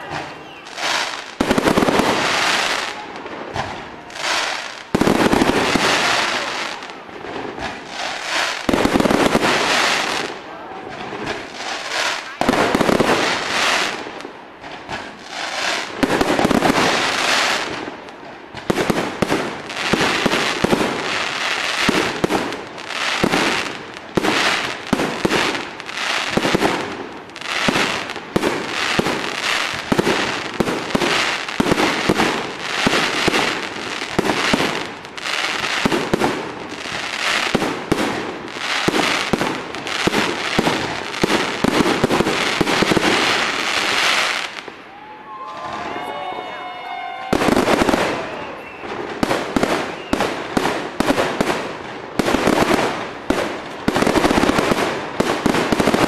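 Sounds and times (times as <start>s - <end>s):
fireworks bangs and crackles: 0.0s - 46.0s, 46.6s - 56.0s.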